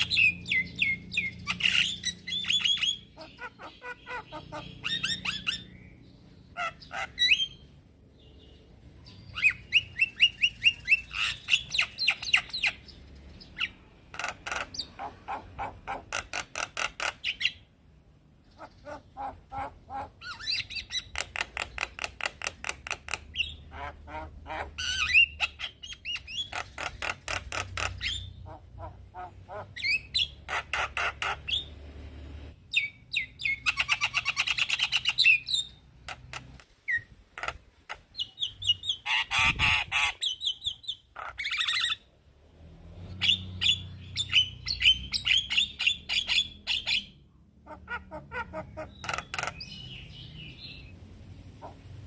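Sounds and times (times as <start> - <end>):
bird chattering and whistling: 0.0 - 7.8, 9.1 - 17.7, 18.4 - 31.8, 32.7 - 42.1, 43.1 - 51.0.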